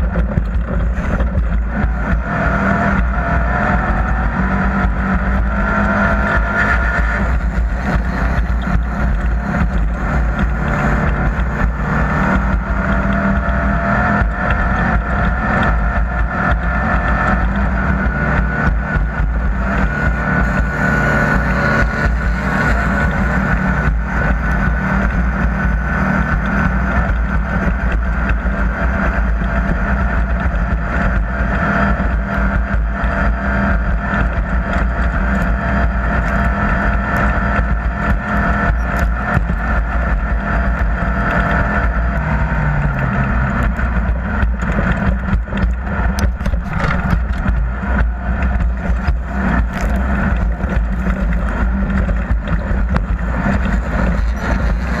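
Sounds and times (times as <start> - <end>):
engine running loudly: 0.0 - 55.0.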